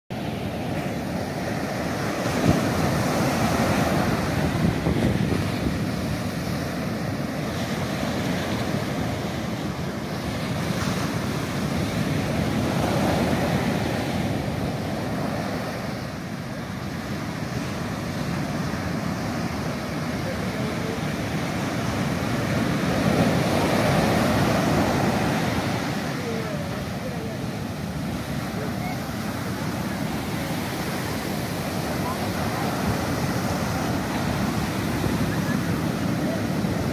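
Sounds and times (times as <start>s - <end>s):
surf breaking on beach: 0.2s - 36.9s.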